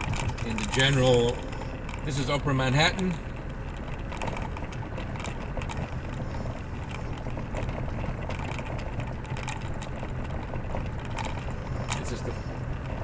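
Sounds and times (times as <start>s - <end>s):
engine and road rumble: 0.0s - 13.0s
faint clicking and ticking: 0.0s - 13.0s.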